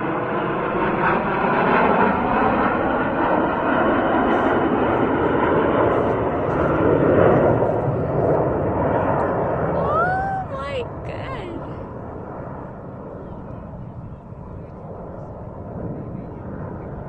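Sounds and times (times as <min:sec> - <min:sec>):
jet engines flying past: 0:00.0 - 0:17.0.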